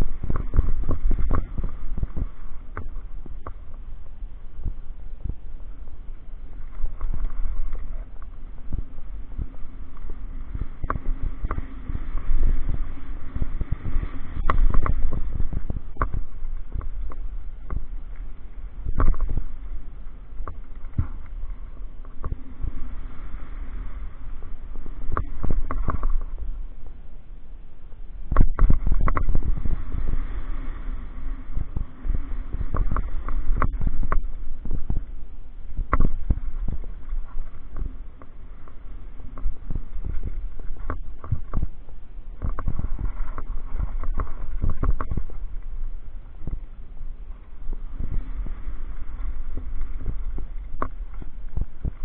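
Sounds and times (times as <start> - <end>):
wind and tyres rumbling: 0.0 - 52.0.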